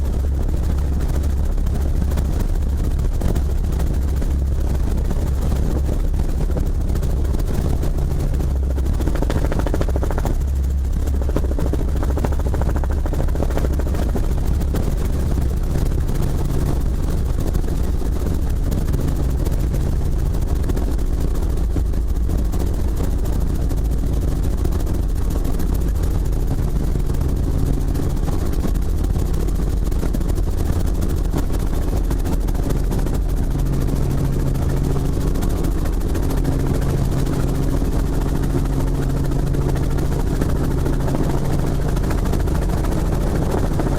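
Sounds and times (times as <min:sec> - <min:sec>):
helicopter rotor and engine drone: 0:00.0 - 0:43.9.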